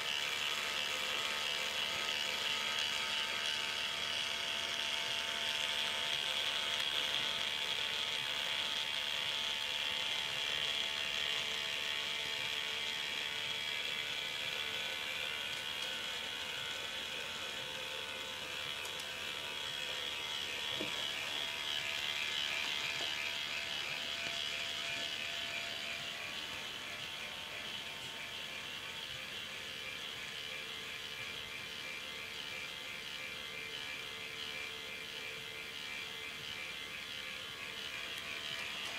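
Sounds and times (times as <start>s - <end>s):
motor whirring: 0.0s - 38.9s.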